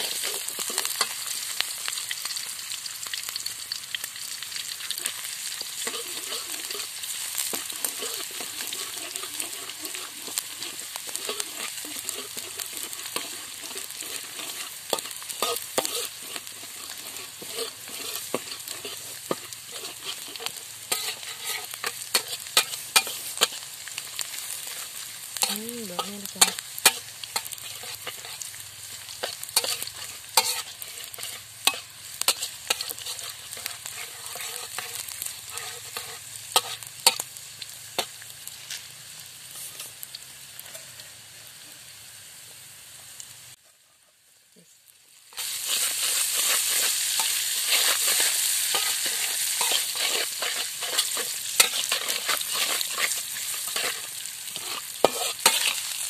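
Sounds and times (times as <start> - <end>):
spatula scraping a wok: 0.0 - 2.0, 4.6 - 42.0, 45.3 - 56.0
food frying in hot oil: 0.0 - 56.0.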